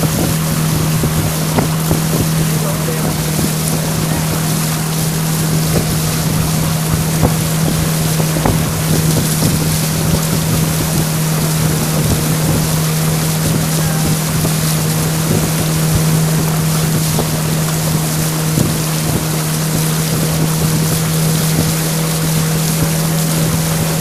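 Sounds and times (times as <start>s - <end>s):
motorboat engine humming: 0.0s - 24.0s
rushing water: 0.0s - 24.0s
wind hiss: 0.0s - 24.0s.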